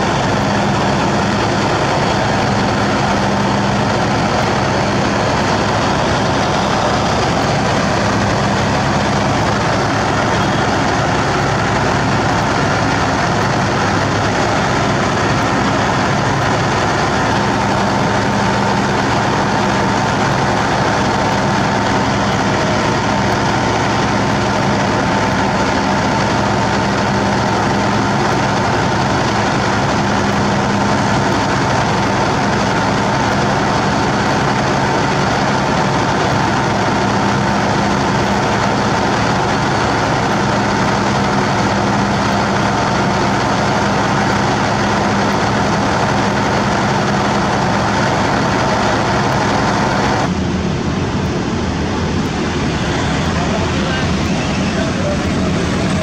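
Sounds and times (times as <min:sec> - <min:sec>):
diesel engine running steadily: 0:00.0 - 0:56.0.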